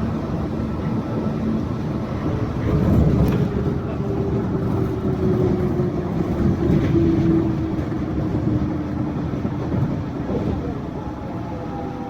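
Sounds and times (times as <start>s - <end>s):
train tyres rumbling: 0.0s - 12.0s.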